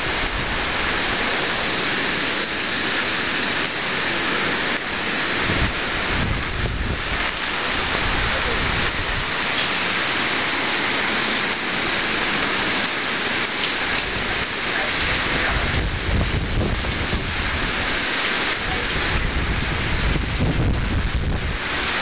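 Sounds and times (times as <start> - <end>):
wind rumbling on microphone: 0.0 - 11.1, 13.8 - 22.0
heavy rain hissing: 0.0 - 22.0.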